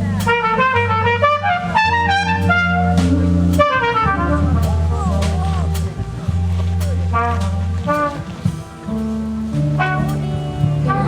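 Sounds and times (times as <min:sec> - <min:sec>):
jazz ensemble playing live: 0:00.0 - 0:11.0
low bass notes: 0:00.0 - 0:11.0
brass horn quick runs: 0:00.3 - 0:05.3, 0:07.1 - 0:11.0.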